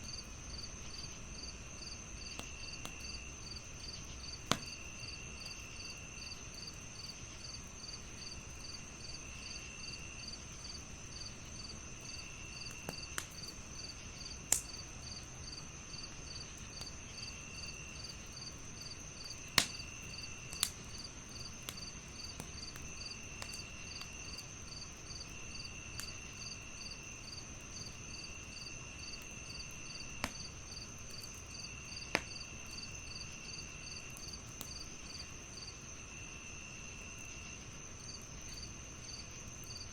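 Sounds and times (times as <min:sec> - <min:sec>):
fire crackling pops: 0:00.0 - 0:35.8
crickets chirping: 0:00.0 - 0:39.9.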